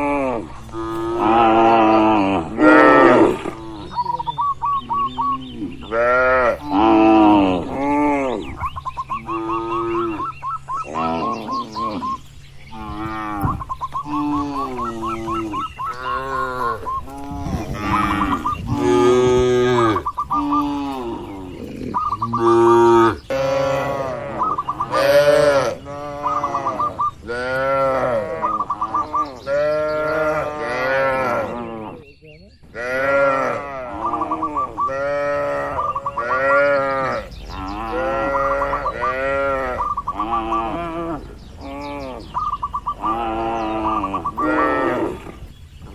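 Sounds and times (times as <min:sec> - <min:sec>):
cattle mooing: 0:00.0 - 0:04.2, 0:04.9 - 0:08.5, 0:09.2 - 0:10.3, 0:10.9 - 0:32.1, 0:32.8 - 0:45.5.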